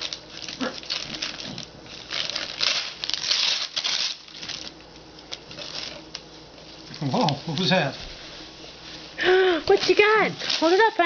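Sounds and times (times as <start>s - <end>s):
paper rustling: 0.0s - 9.0s, 9.7s - 11.0s
wrapping paper ripping: 0.0s - 9.0s, 9.7s - 11.0s.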